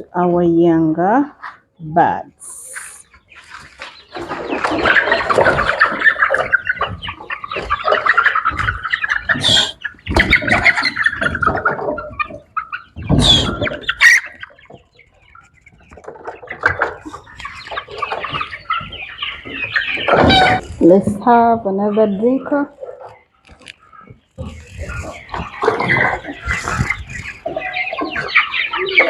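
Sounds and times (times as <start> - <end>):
chicks peeping and cheeping: 0.0 - 29.0.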